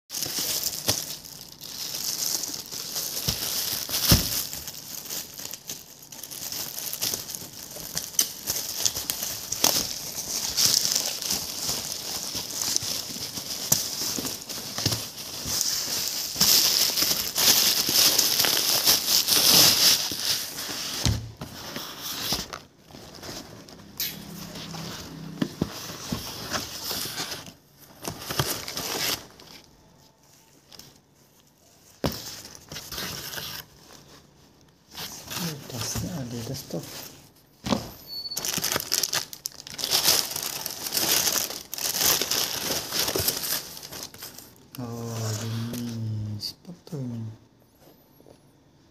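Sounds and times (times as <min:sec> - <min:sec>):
plastic mailer bag crinkling: 0:00.1 - 0:46.2.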